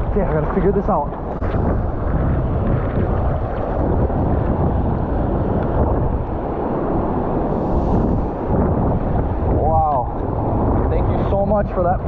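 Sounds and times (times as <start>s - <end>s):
ocean surf washing on shore: 0.0s - 12.0s
wind buffeting microphone: 0.0s - 12.0s.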